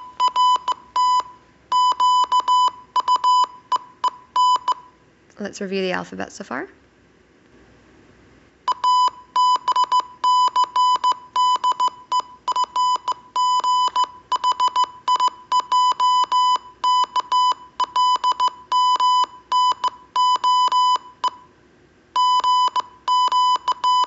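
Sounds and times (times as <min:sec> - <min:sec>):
morse code beeps: 0:00.0 - 0:05.0, 0:08.7 - 0:21.5, 0:22.2 - 0:24.0.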